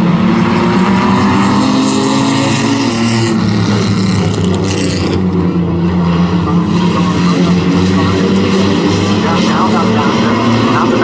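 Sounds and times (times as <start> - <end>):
race truck engines at full throttle: 0.0 - 11.0
trucks passing close: 0.0 - 11.0.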